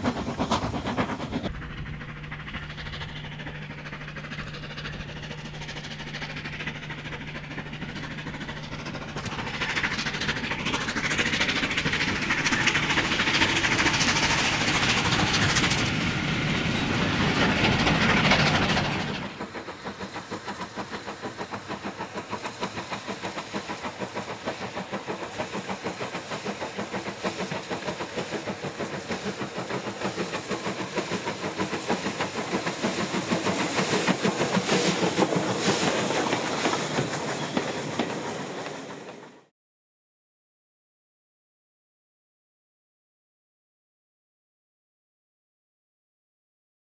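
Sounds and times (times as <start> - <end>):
wheels clicking over rail joints: 0.0 - 39.4
steam locomotive exhaust beats: 0.0 - 39.5
steam locomotive exhaust roar: 0.0 - 39.5.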